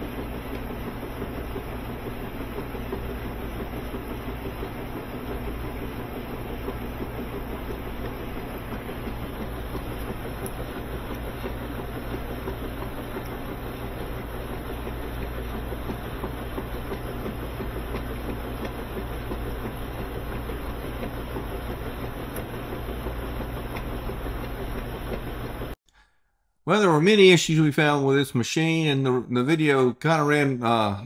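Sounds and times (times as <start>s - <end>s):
washing machine running: 0.0s - 25.8s.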